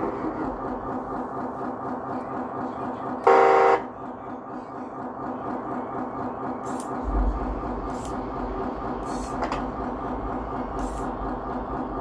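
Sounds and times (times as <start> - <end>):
deep engine rumble: 0.0 - 12.0
simulated diesel engine drone: 0.0 - 12.0.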